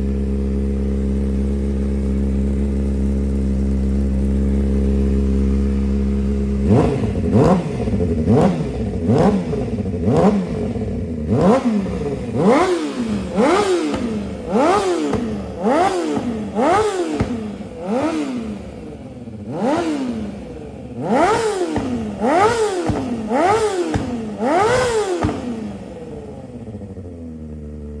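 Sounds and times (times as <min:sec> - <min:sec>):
engine clatter: 0:00.0 - 0:28.0
motorcycle engine revving: 0:00.0 - 0:28.0.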